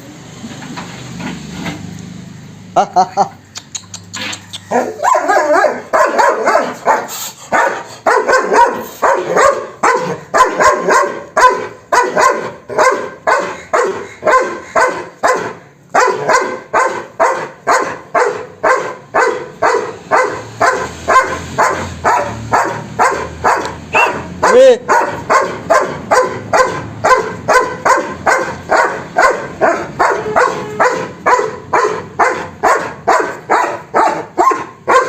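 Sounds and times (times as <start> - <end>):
dog barking: 4.7 - 35.0.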